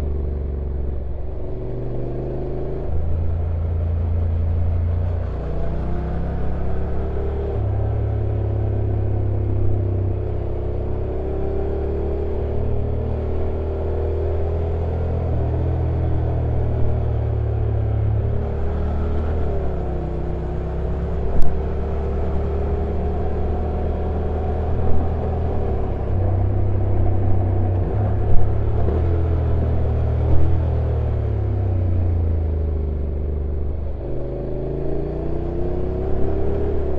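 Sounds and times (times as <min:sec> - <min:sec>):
road and wind noise: 0:00.0 - 0:36.9.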